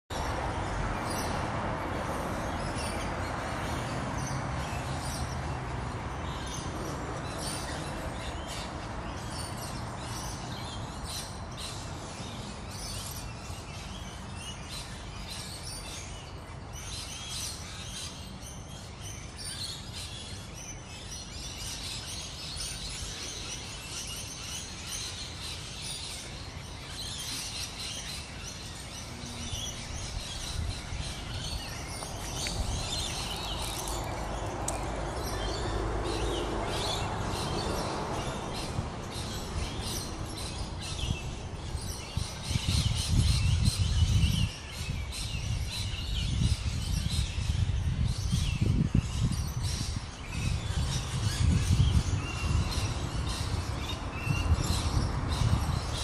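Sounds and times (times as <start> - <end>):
birds chirping: 0.1 - 56.0.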